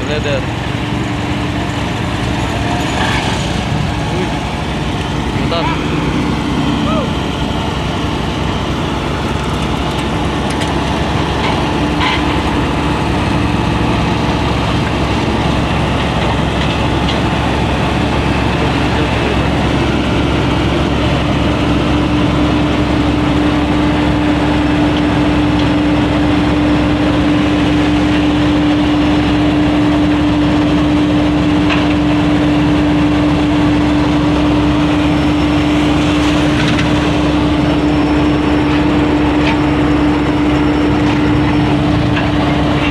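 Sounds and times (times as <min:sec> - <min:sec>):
heavy machinery engine running: 0:00.0 - 0:42.9.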